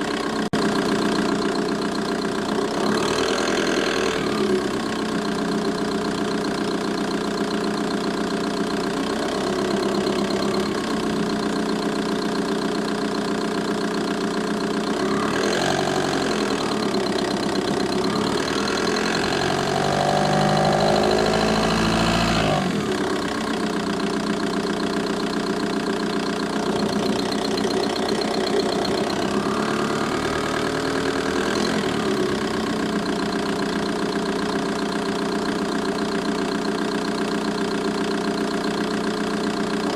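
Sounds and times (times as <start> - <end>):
diesel engine idling: 0.0 - 39.9
engine ticking: 0.0 - 39.9.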